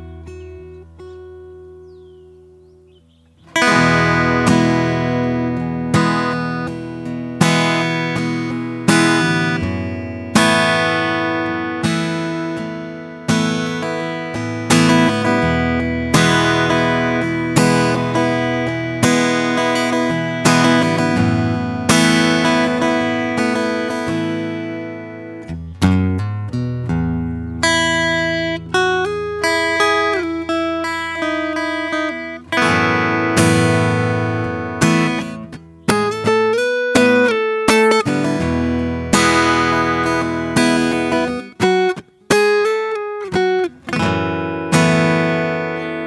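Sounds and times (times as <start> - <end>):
acoustic guitar strumming chords: 0.0 - 46.0.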